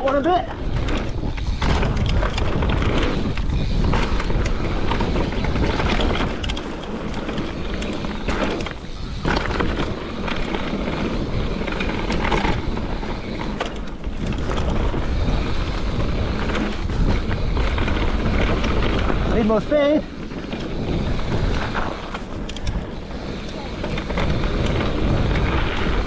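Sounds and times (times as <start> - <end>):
bike clicks and rattles: 0.0 - 26.0
tyres rumbling on dirt: 0.0 - 26.0
wind buffeting microphone: 0.0 - 26.0.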